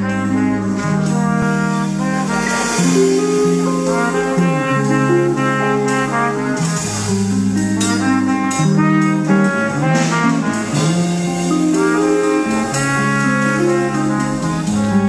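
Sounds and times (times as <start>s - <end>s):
live band playing: 0.0s - 15.0s
low bass line: 0.0s - 15.0s
sharp drum hits: 0.0s - 15.0s.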